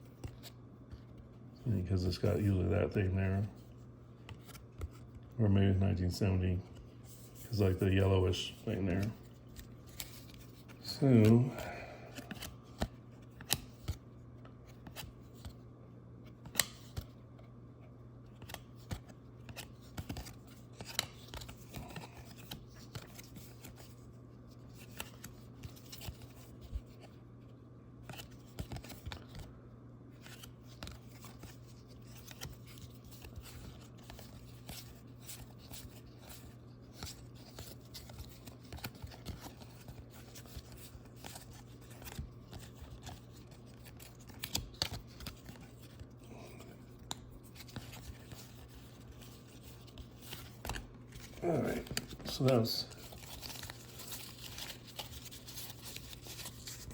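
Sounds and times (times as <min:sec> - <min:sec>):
steady low hum: 0:00.0 - 0:56.9
trading cards flipped by hand: 0:03.6 - 0:05.3, 0:06.8 - 0:15.6, 0:16.2 - 0:17.2, 0:18.3 - 0:27.2, 0:28.0 - 0:29.5, 0:30.2 - 0:56.9.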